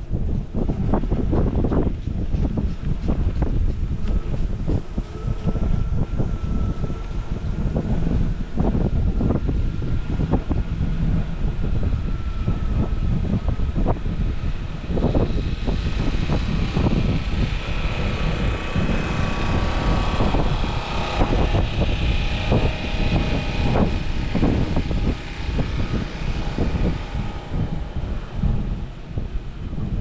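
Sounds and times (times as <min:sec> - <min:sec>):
faint steady whine: 0:00.0 - 0:30.0
wind buffeting microphone: 0:00.0 - 0:30.0.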